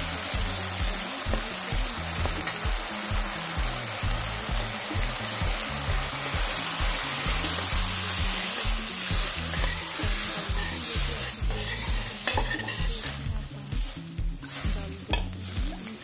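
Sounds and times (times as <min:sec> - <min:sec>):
background music with low beat: 0:00.0 - 0:16.0
masala sizzling in pan: 0:00.0 - 0:16.0
water poured into hot pan: 0:00.0 - 0:16.0.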